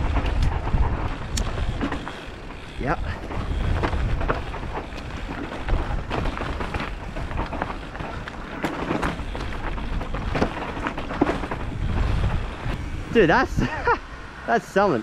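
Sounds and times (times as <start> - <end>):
bike knocks and rattles: 0.0 - 13.8
bike tyres crunching over dirt: 0.0 - 13.9
wind rumble on microphone: 0.0 - 14.2.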